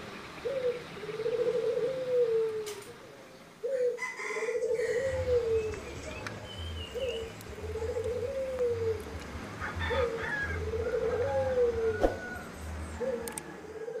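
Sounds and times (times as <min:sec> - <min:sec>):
dove cooing: 0:00.4 - 0:06.0, 0:06.6 - 0:14.0.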